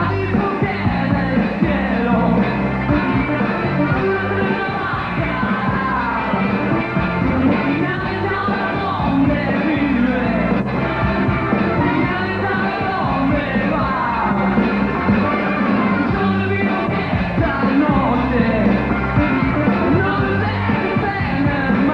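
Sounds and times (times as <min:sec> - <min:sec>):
person singing: 0:00.0 - 0:21.9
rock band playing live: 0:00.0 - 0:21.9.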